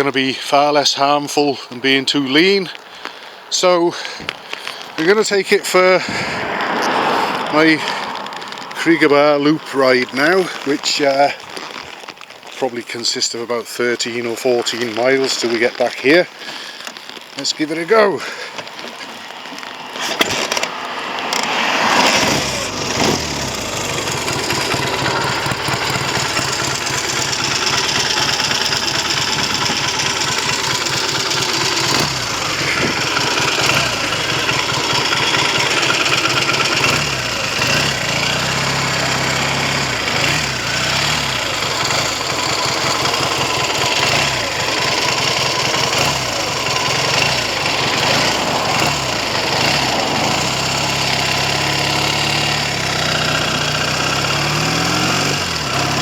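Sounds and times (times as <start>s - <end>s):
motorcycle engine starting and idling: 0.0s - 56.0s.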